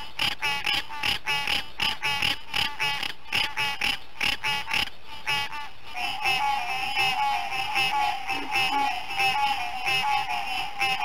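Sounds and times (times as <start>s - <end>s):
tree frog calling: 0.0s - 11.0s.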